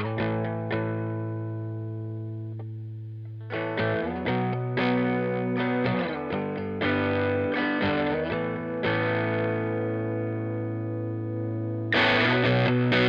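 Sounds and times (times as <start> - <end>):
fuzzed bass guitar notes: 0.0 - 13.0.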